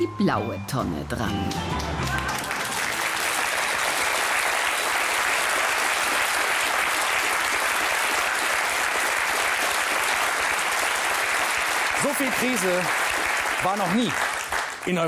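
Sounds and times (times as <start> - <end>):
audience applauding: 1.5 - 15.0.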